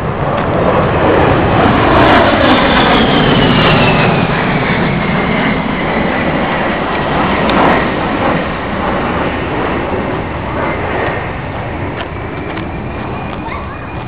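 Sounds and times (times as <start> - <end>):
jet roar with falling whine: 0.0 - 14.0.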